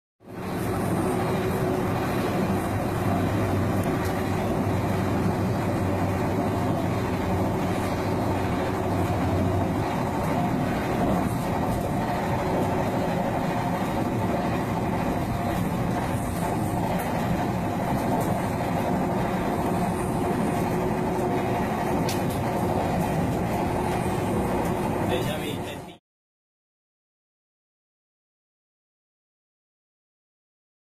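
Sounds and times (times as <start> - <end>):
train carriage rumble and hum: 0.2 - 26.0.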